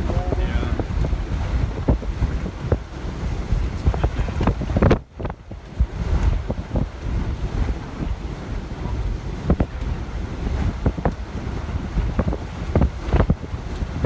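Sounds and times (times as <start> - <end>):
ocean surf: 0.0 - 14.0
wind gusting against microphone: 0.0 - 14.0.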